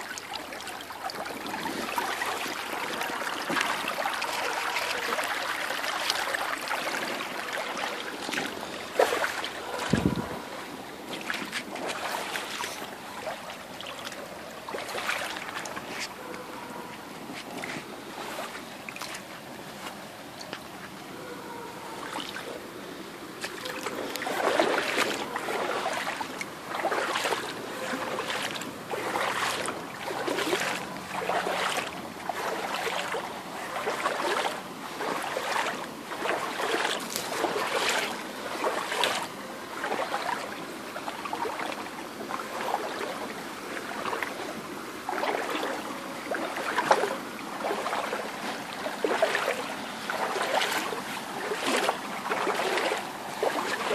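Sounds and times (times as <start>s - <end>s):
boots splashing through water: 0.0s - 20.7s, 23.3s - 53.9s
water trickling: 0.0s - 53.9s.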